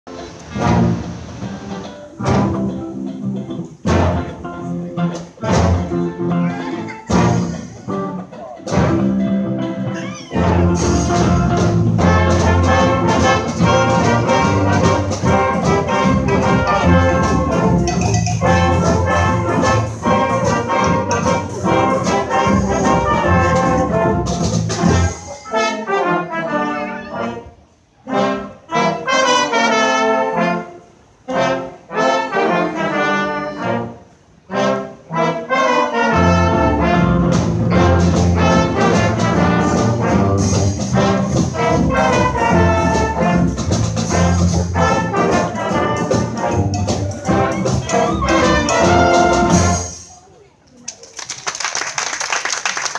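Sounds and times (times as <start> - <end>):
trumpets and trombones: 0.1 - 50.2.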